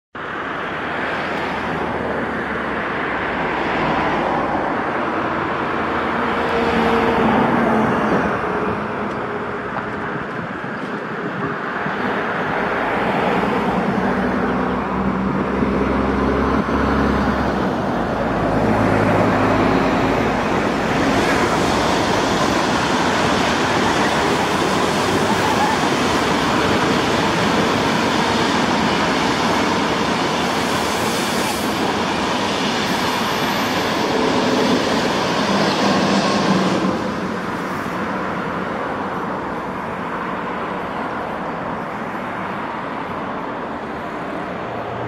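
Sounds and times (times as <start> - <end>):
trains passing on rails: 0.2 - 45.0.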